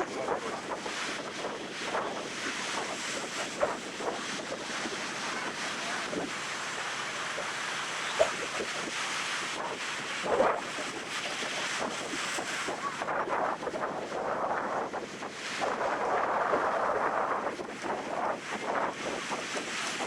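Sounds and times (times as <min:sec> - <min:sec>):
ocean surf on sandy beach: 0:00.0 - 0:20.0
wind buffeting microphone: 0:00.0 - 0:20.0.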